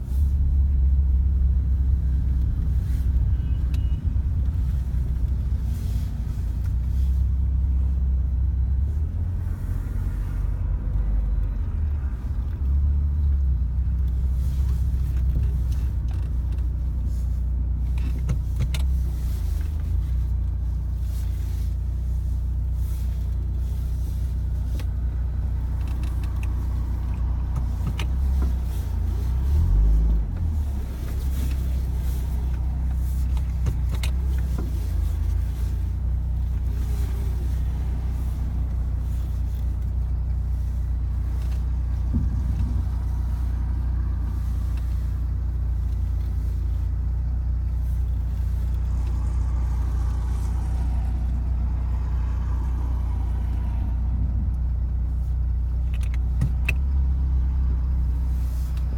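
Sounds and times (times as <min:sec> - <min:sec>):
road and engine rumble: 0:00.0 - 0:58.9.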